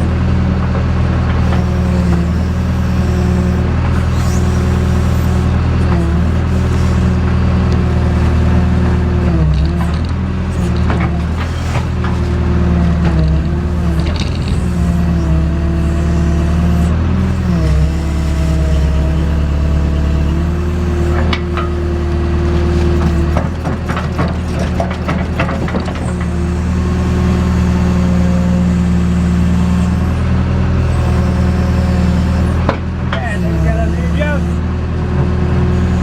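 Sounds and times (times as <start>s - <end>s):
diesel engine under hydraulic load: 0.0s - 36.0s.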